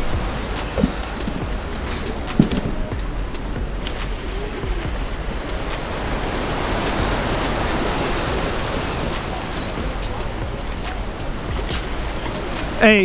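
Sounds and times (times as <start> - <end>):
water rushing around pilings: 0.0 - 13.0
wind on microphone: 0.0 - 13.0.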